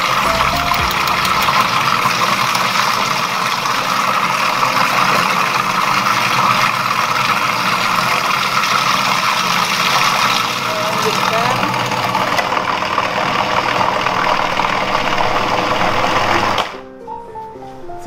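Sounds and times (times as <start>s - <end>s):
food processor grinding: 0.0s - 16.8s.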